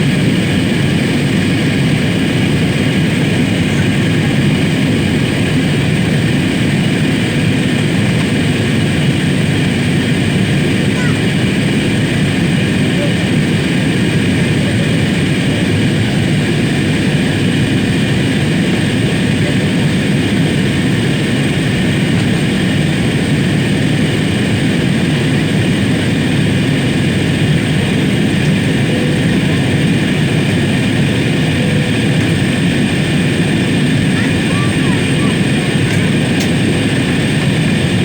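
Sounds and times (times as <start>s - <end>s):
airliner engines droning: 0.0s - 38.0s.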